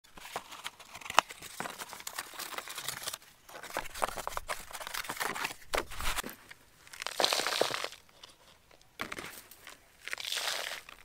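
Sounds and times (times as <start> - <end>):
hands rustling dry soil: 0.1 - 11.0.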